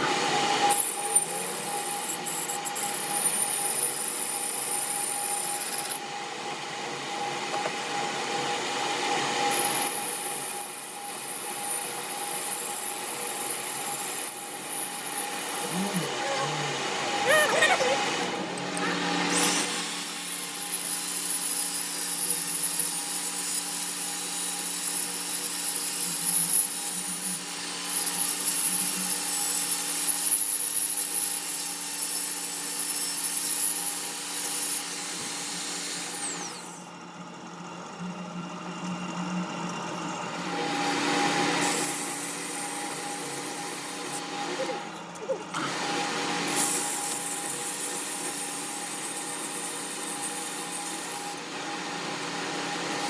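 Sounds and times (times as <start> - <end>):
power tool whining and cutting: 0.0 - 36.8, 40.3 - 53.0.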